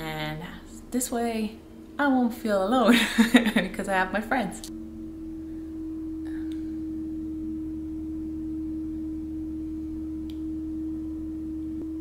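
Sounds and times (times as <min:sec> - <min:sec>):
faint hum: 0:00.0 - 0:12.0
steady low tone: 0:00.0 - 0:12.0.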